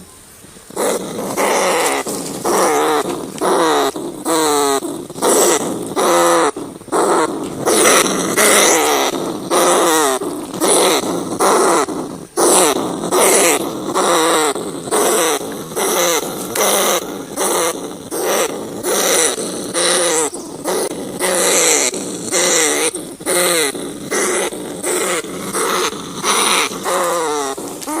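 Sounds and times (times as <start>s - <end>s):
rat calls: 0.7s - 28.0s.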